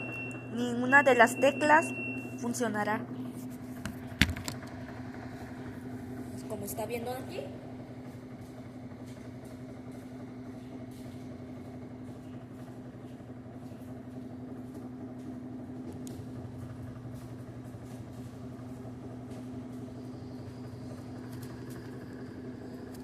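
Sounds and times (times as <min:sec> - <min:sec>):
washing machine spinning: 0:00.0 - 0:23.0.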